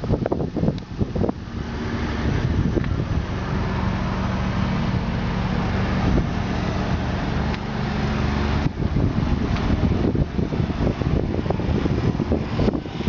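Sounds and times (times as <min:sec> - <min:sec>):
even rushing noise: 0:00.0 - 0:13.0
vehicle engine idling: 0:00.0 - 0:13.0.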